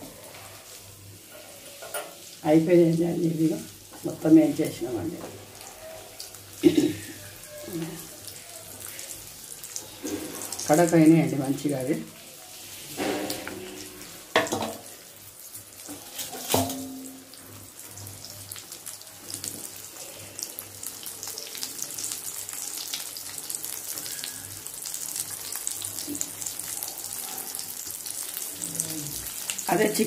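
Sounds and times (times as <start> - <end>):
fish frying in oil: 0.0 - 30.0.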